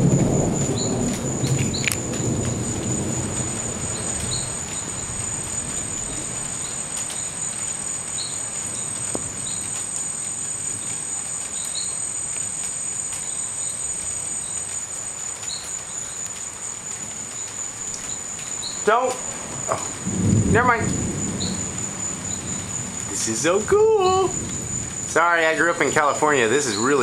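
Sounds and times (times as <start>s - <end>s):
thunder rumble: 0.0s - 11.9s, 17.0s - 27.0s
crickets chorus: 0.0s - 27.0s.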